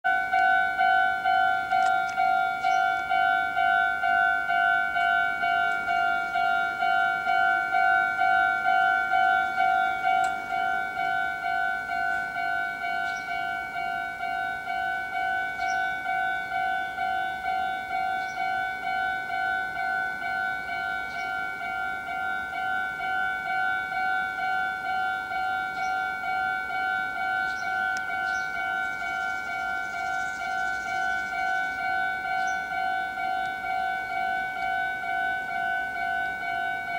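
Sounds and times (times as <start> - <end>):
level crossing warning bell: 0.0 - 36.9.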